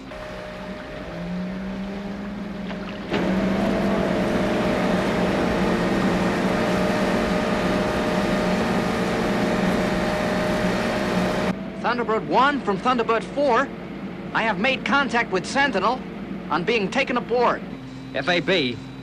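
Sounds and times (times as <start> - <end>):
ship engine drone: 0.0 - 19.0
ship machinery hum: 0.0 - 19.0.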